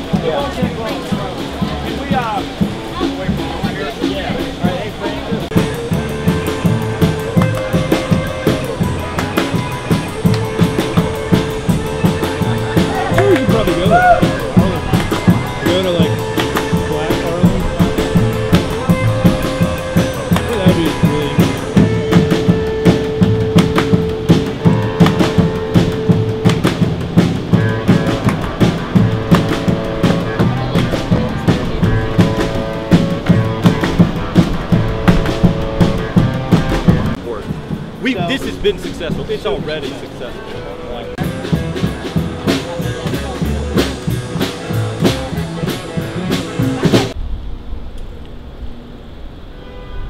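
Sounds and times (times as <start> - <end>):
drum and cymbal beat: 0.0 - 40.5, 41.1 - 47.2
upright bass: 0.0 - 47.2.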